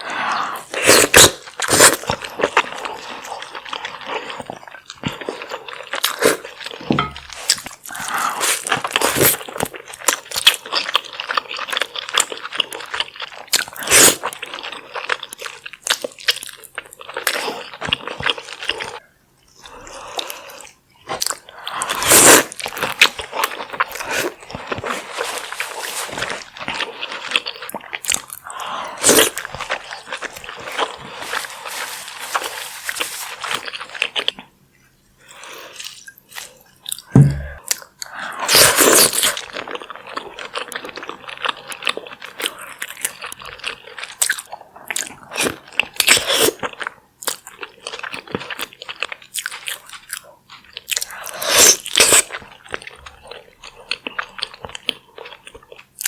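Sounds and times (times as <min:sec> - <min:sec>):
wet chewing and crunching: 0:00.7 - 0:19.0, 0:19.6 - 0:56.0.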